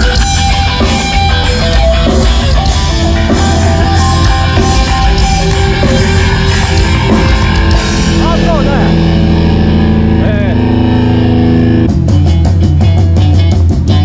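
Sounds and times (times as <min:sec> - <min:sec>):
distorted electric guitar: 0:00.0 - 0:14.0
heavy bass: 0:00.0 - 0:14.0
loud rock music: 0:00.0 - 0:14.0.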